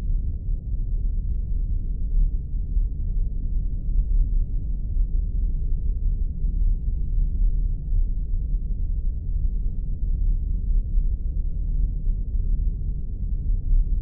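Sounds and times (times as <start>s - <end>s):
deep muffled rumble: 0.0s - 14.0s.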